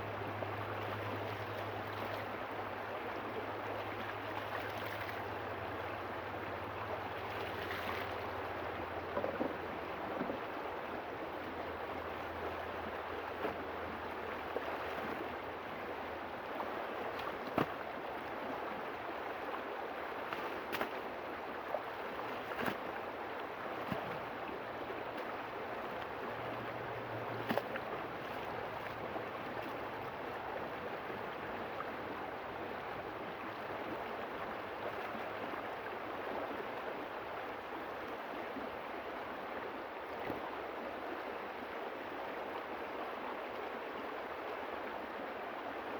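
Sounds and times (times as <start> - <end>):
river water flowing: 0.0 - 45.9.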